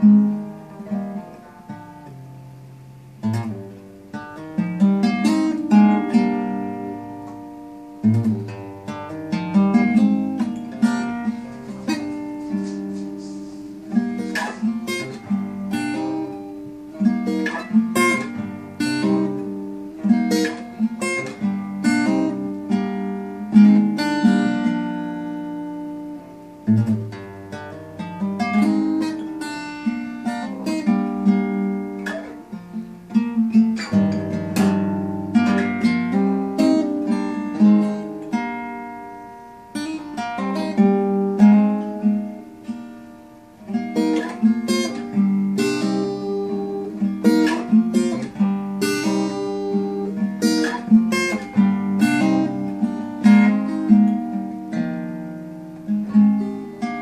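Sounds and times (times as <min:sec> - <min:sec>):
acoustic guitar plucked notes and chords: 0:00.0 - 0:57.0.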